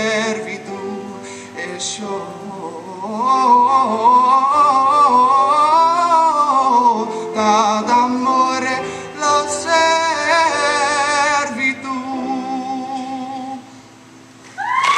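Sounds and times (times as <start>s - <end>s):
man singing with vibrato: 0.0s - 13.8s
piano accompaniment: 0.0s - 14.4s.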